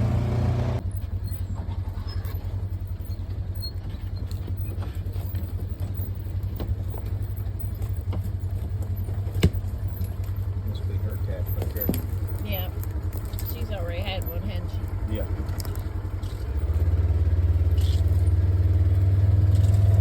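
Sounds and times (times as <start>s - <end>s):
vehicle body rattling: 0.0s - 20.0s
vehicle engine running: 0.0s - 20.0s.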